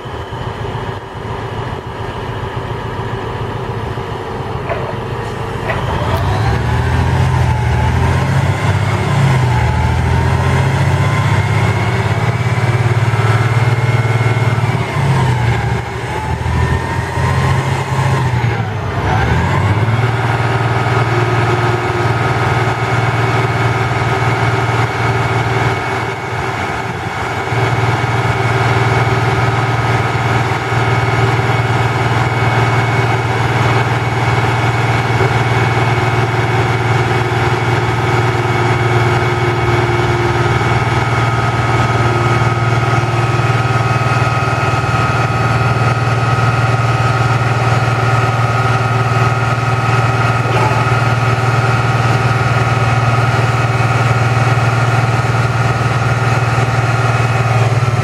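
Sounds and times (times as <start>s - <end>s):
diesel engine running: 0.0s - 58.0s
hydraulic whine wavering in pitch: 0.0s - 58.0s.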